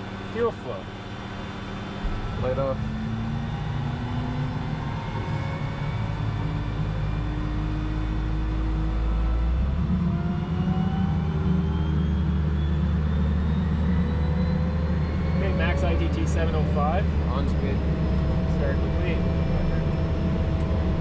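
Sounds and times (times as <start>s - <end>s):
turboprop engine spooling up: 0.0s - 21.0s.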